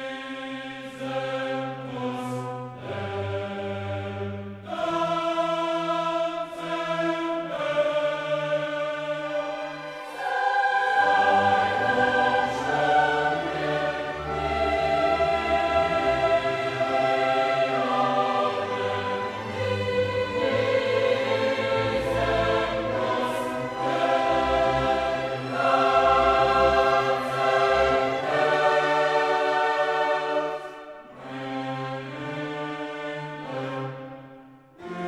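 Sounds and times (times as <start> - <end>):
choir singing held chords: 0.0 - 35.0
orchestra: 0.0 - 35.0.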